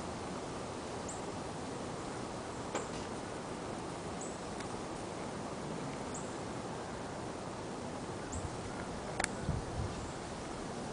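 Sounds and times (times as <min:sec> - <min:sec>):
outdoor background hiss: 0:00.0 - 0:10.9.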